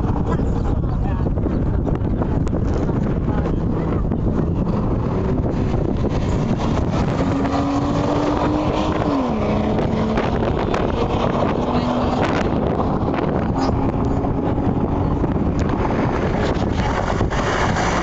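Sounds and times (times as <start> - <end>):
wind rumble on microphone: 0.0 - 18.0
car engine running: 1.8 - 18.0.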